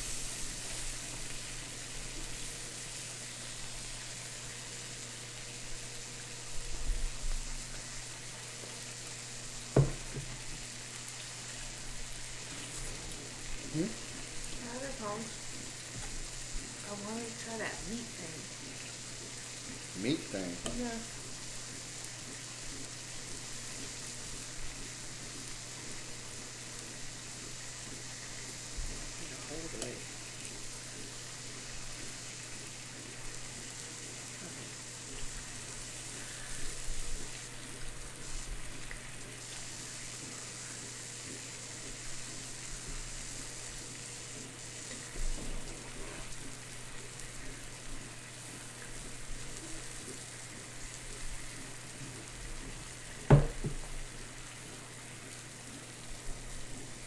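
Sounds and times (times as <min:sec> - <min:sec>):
meat sizzling on grill: 0:00.0 - 0:57.0.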